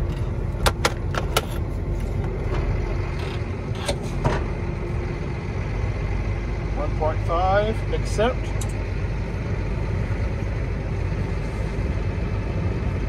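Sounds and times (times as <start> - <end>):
tractor diesel engine rumble: 0.0 - 13.0.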